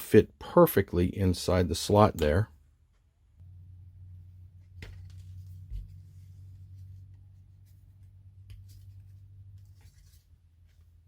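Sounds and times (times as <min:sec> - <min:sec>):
steady low hum: 0:01.2 - 0:11.0.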